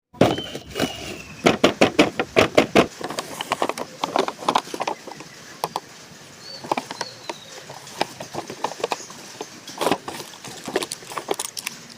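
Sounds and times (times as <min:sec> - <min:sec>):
plastic toys knocking and clicking: 0:00.2 - 0:05.9, 0:06.6 - 0:11.9.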